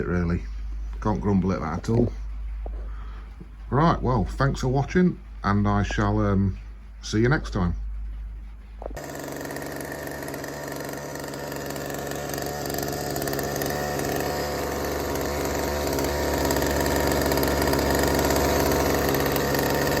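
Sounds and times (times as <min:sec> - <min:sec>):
chainsaw engine running: 0:00.0 - 0:20.0.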